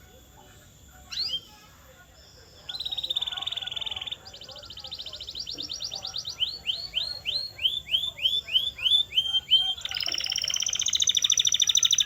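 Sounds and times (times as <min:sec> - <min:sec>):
canary singing: 0:01.0 - 0:12.0.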